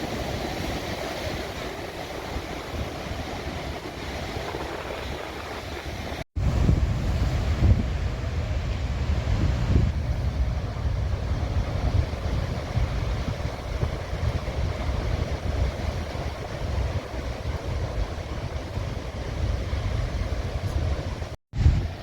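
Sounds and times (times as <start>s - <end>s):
heavy surf breaking: 0.0s - 22.0s
wind buffeting microphone: 0.0s - 22.0s.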